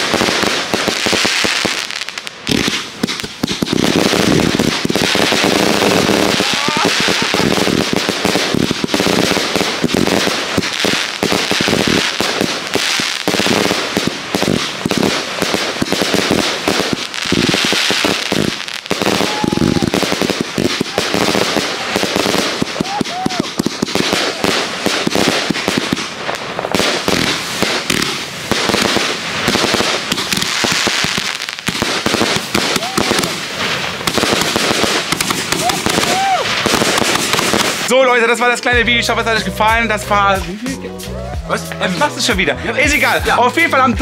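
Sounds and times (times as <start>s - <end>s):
fireworks bangs and crackling: 0.0s - 40.8s, 41.4s - 44.0s.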